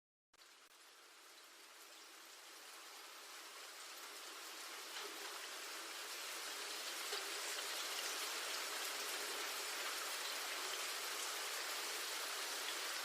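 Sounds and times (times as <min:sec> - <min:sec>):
individual raindrops: 0:00.4 - 0:13.0
steady rain hissing: 0:00.4 - 0:13.0.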